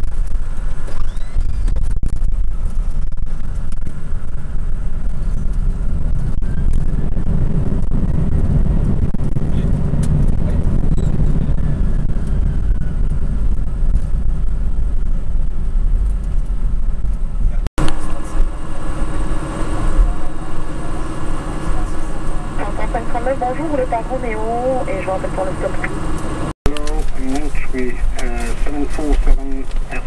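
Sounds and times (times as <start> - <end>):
jet landing rumble: 0.0 - 30.0.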